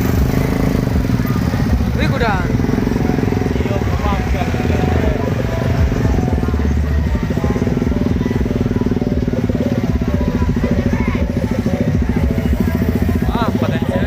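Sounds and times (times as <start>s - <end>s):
faint voices: 0.0s - 14.0s
motorcycle engine running: 0.0s - 14.0s.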